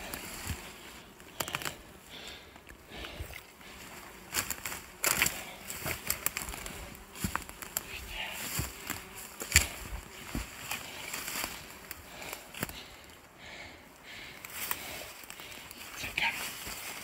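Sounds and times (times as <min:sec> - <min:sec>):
footsteps through brush and grass: 0:00.0 - 0:13.3, 0:14.0 - 0:17.0.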